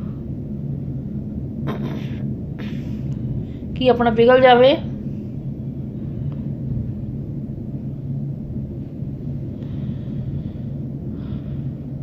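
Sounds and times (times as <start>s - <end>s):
faint hum: 0.0s - 12.0s
gas stove burner rumble: 0.0s - 12.0s.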